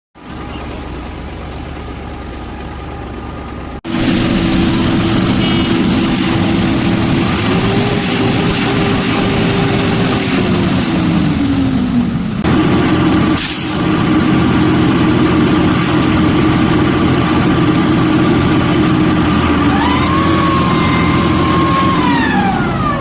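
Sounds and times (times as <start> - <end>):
diesel truck engine running: 0.2 - 23.0.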